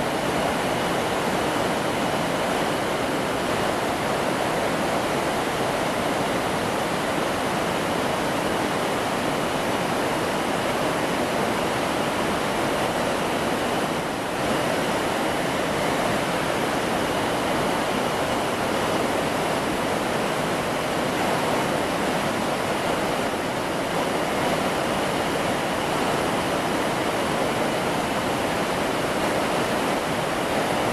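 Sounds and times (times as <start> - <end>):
mountain stream rushing: 0.0 - 30.9.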